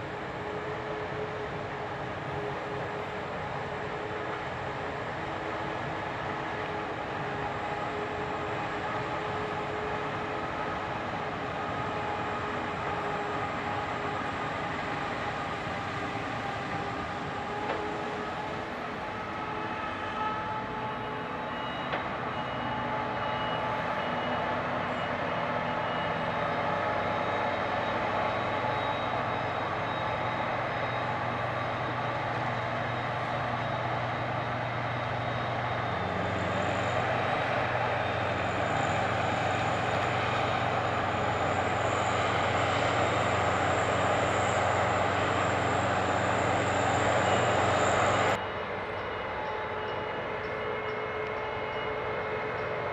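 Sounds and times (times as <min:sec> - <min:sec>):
heavy vehicle engine running: 0:00.0 - 0:52.9
thin high whine: 0:06.5 - 0:52.9.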